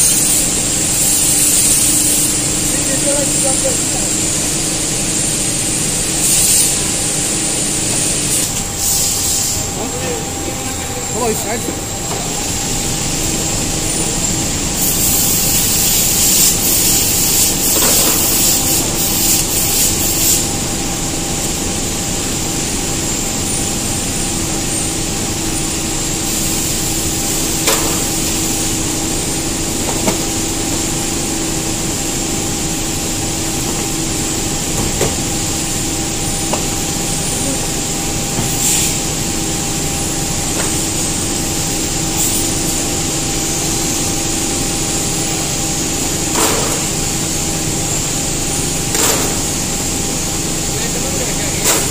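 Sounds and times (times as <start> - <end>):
machinery hum: 0.0 - 51.9.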